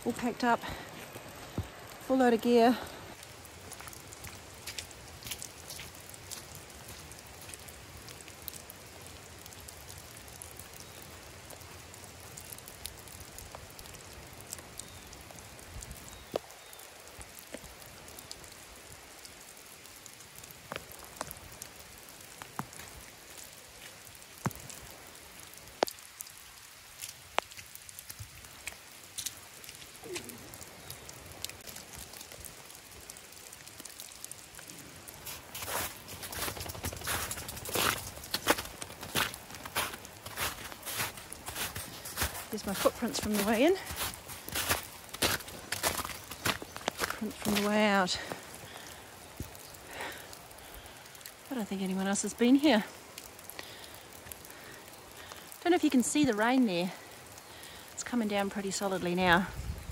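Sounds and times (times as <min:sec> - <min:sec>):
light rain hissing: 0:00.0 - 0:59.9
raindrops tapping: 0:00.0 - 0:59.9.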